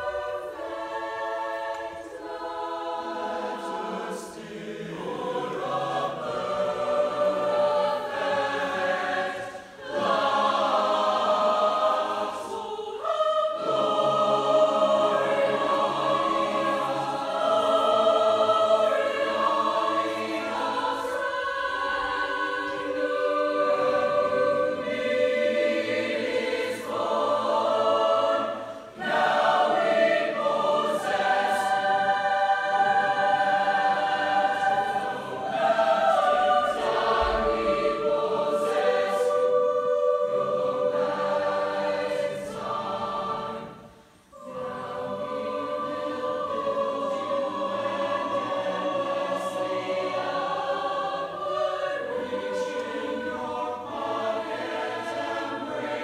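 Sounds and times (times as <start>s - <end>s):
choir singing sustained chords: 0.0s - 56.0s.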